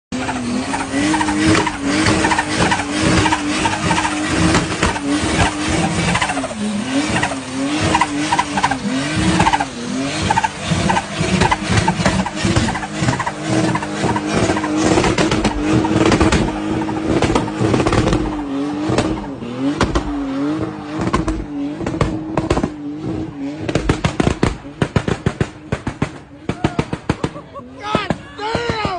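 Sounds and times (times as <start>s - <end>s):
car engine: 0.1s - 28.9s
tires squealing: 0.1s - 28.9s.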